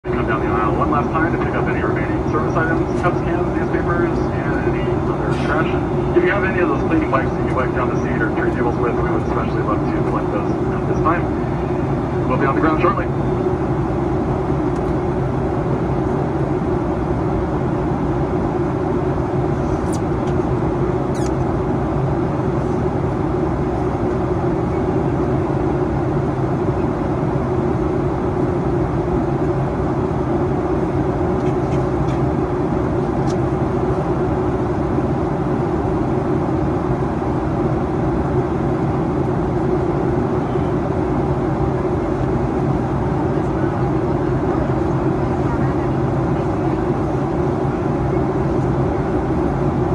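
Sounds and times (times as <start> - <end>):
airplane cabin roar: 0.0 - 49.9.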